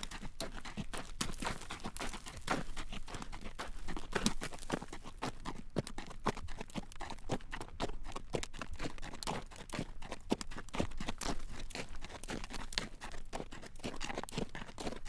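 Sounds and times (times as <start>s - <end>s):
horse hooves clip-clopping on road: 0.0s - 15.0s.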